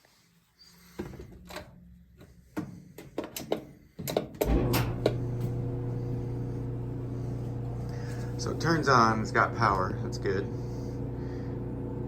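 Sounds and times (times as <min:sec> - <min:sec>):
clothes dryer humming: 0:00.8 - 0:12.0.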